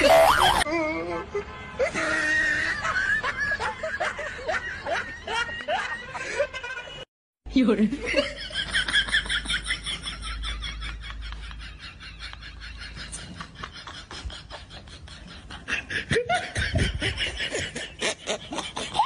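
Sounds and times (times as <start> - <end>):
person laughing: 0.0 - 0.9, 1.8 - 6.8, 8.0 - 19.0.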